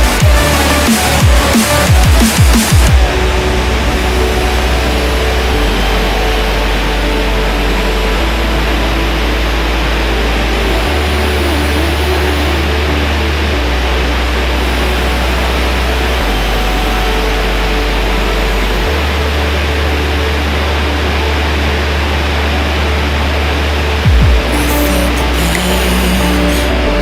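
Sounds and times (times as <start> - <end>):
electronic music bass notes: 0.0 - 27.0.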